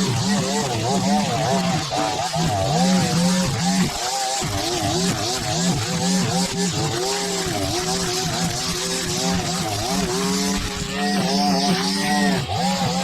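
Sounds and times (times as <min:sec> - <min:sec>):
lawn mower engine running hard: 0:00.0 - 0:13.0.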